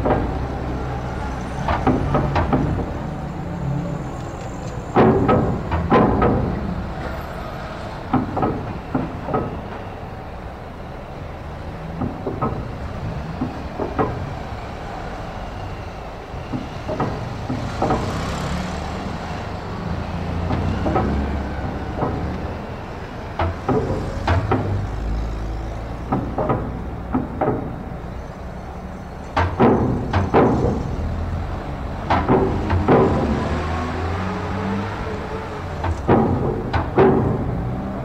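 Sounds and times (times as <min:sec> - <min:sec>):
vehicle clunks on ramp: 0:00.0 - 0:10.2, 0:10.8 - 0:38.0
low engine rumble: 0:00.0 - 0:38.0.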